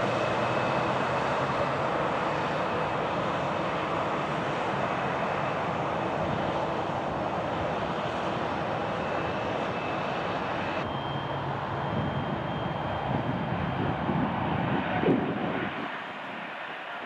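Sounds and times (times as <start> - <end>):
high engine whine: 0.0 - 17.0
jet engines at takeoff thrust: 0.0 - 17.0
jet engines at taxi: 0.0 - 17.0.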